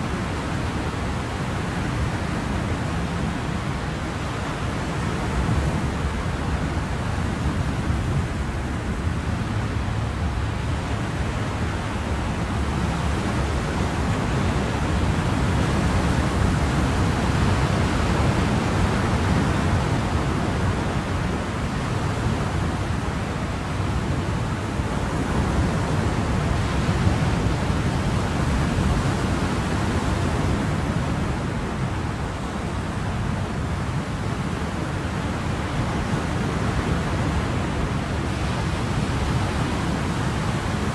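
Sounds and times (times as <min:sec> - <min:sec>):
ocean waves and surf: 0:00.0 - 0:40.9.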